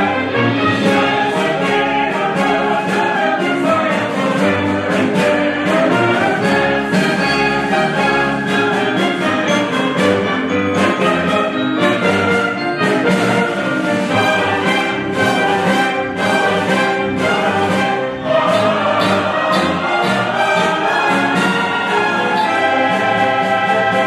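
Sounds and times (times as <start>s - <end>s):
brass ensemble playing: 0.0s - 24.0s
mixed choir singing: 0.0s - 24.0s.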